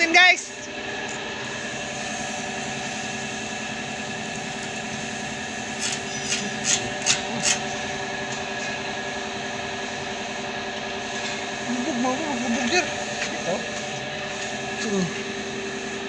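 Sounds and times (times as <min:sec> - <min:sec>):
welding set humming: 0:00.0 - 0:16.0.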